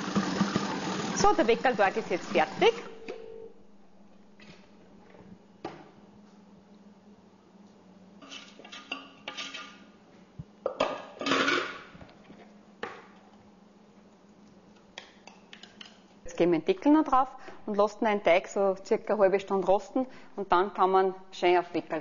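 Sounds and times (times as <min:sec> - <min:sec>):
faint steady hum: 0:01.0 - 0:22.0.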